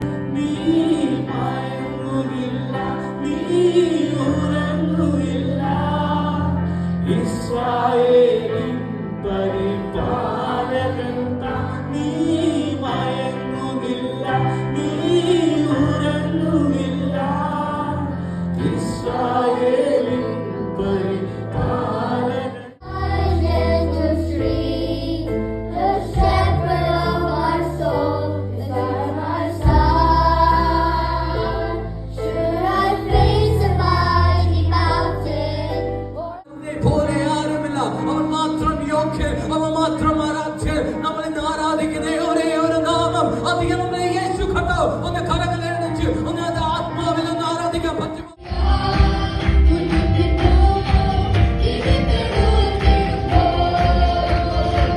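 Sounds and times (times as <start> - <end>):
voices singing worship music: 0.0 - 54.9.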